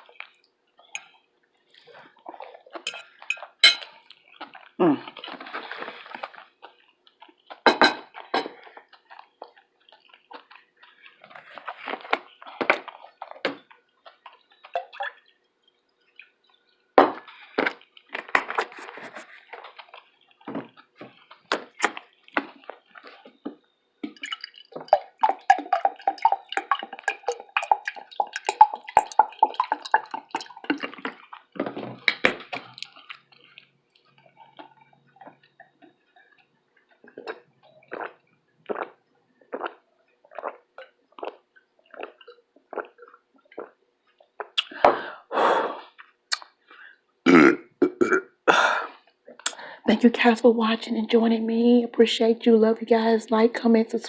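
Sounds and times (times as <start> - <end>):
wet chewing and lip smacks: 0.0 - 44.8, 45.9 - 47.0.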